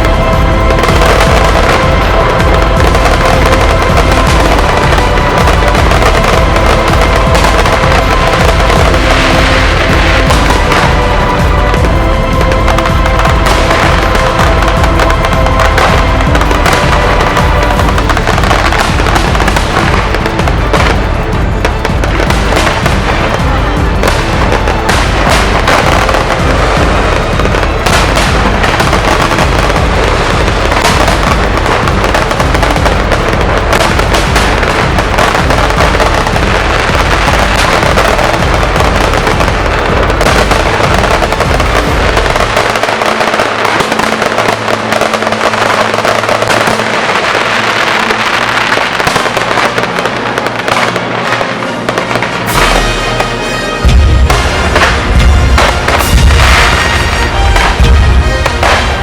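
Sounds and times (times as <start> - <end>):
fireworks crackling: 0.0 - 59.0
fireworks deep booms: 0.0 - 59.0.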